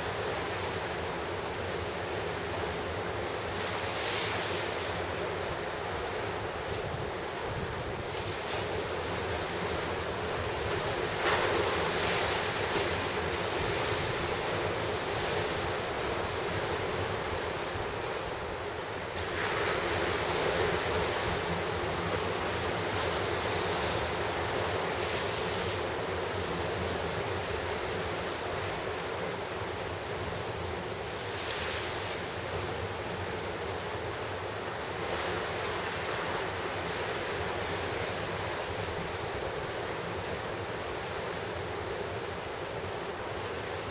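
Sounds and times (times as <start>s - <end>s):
ocean surf crashing: 0.0s - 43.9s.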